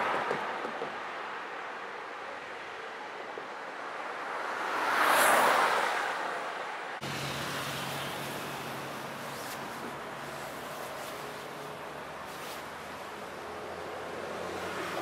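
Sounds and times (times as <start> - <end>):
background traffic noise: 0.0 - 15.0.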